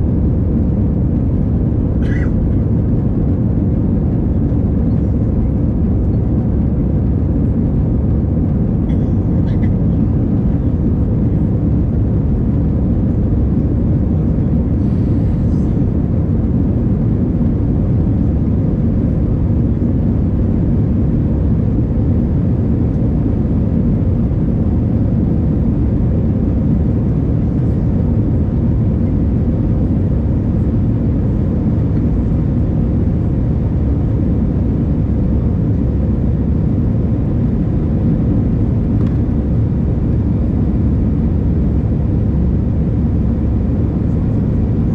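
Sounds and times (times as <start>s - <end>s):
jet engines and airflow in cabin: 0.0s - 44.9s.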